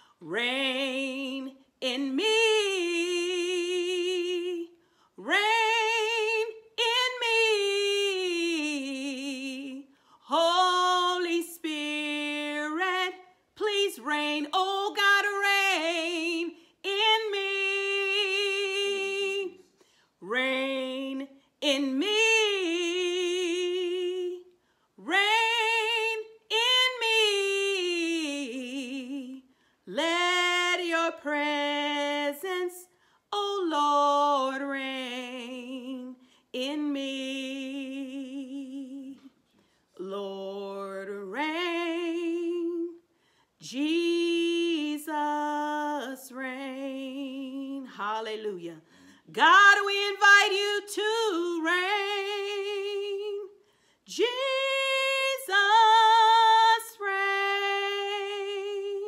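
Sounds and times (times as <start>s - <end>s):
woman singing unaccompanied: 0.2s - 19.6s, 20.2s - 39.3s, 40.0s - 43.0s, 43.6s - 59.0s.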